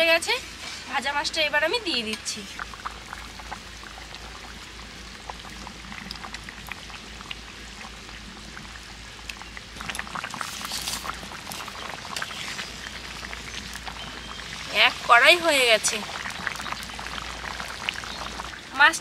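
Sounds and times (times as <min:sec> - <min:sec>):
curry bubbling and popping: 0:00.0 - 0:19.0.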